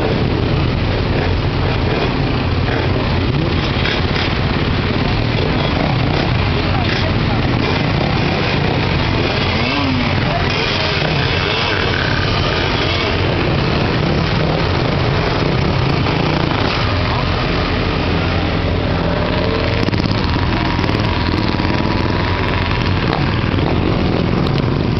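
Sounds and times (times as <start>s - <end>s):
motorcycle engines idling: 0.0s - 24.9s.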